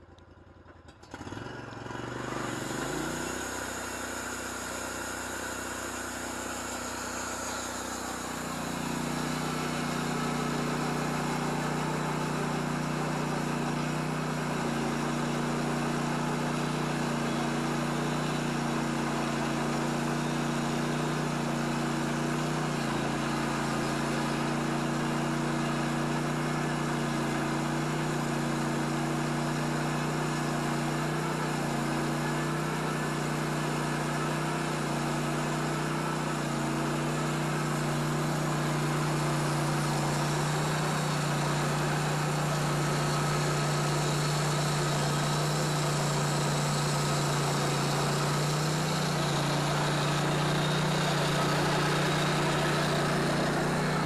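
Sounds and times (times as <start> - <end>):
sawmill engine running: 1.0 - 54.0
band blade cutting log: 2.2 - 54.0.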